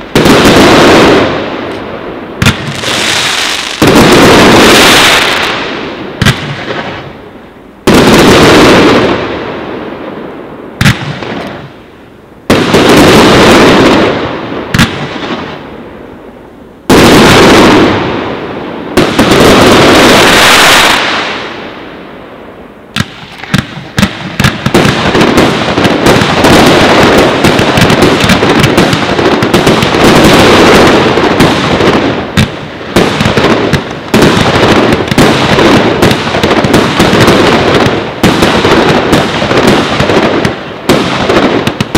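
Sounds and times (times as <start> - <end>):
fireworks bangs: 0.0 - 41.9
rapid crackle of small fireworks: 0.0 - 41.9.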